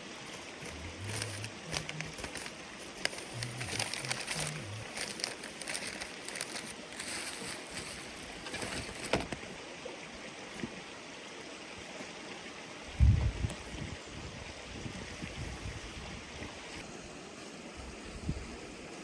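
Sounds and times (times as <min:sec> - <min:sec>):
river water running: 0:00.0 - 0:19.0.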